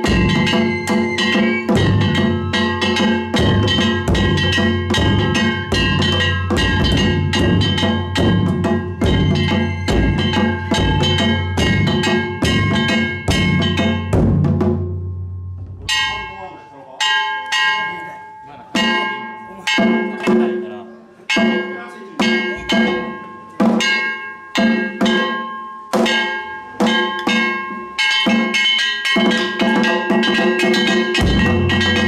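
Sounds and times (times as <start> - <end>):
taiko drums beaten fast: 0.0 - 16.3, 18.8 - 20.7, 21.3 - 32.0
barrel drum beaten with sticks: 0.0 - 16.4, 21.3 - 32.0
metallic ringing: 0.0 - 32.0.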